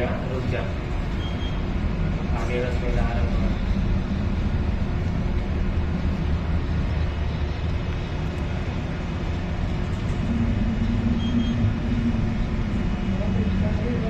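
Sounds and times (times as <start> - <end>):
ship engine rumbling: 0.0 - 14.0.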